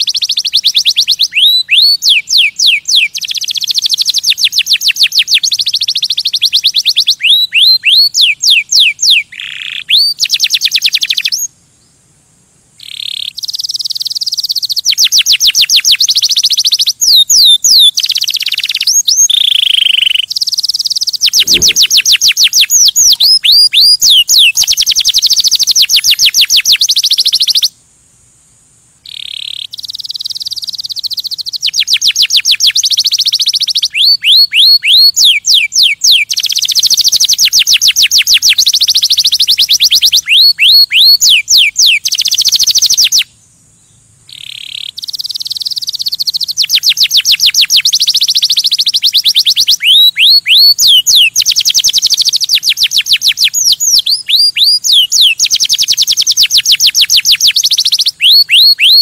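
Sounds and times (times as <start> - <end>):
canary singing trills: 0.0 - 12.0, 12.8 - 27.8, 29.0 - 59.0.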